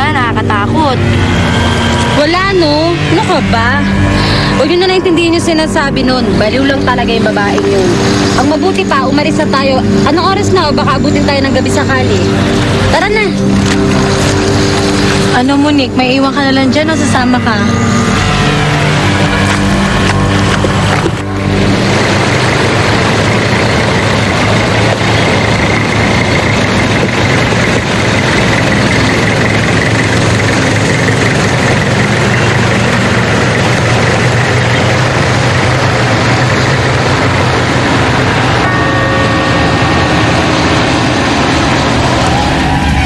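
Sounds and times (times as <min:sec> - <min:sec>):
car engine running: 0:00.0 - 0:43.0
held tone: 0:00.0 - 0:43.0.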